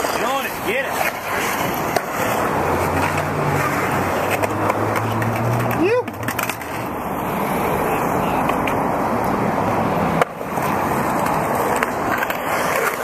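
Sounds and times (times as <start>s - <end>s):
skateboard wheels rolling on concrete: 0.0s - 13.0s.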